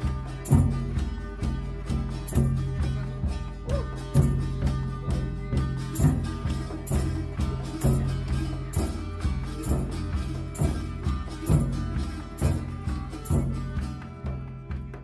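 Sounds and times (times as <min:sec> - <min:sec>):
slow drum beat: 0:00.0 - 0:15.0.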